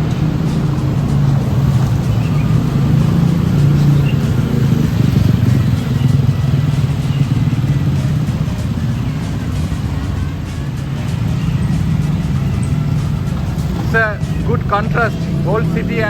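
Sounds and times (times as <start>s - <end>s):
road traffic: 0.0s - 16.0s
vehicle engine drone: 0.0s - 16.0s.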